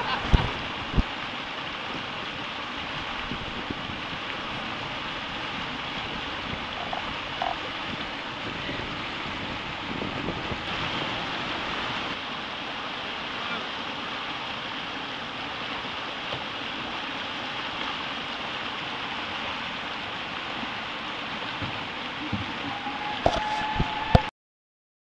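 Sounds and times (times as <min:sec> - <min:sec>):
river water rushing: 0:00.0 - 0:24.3.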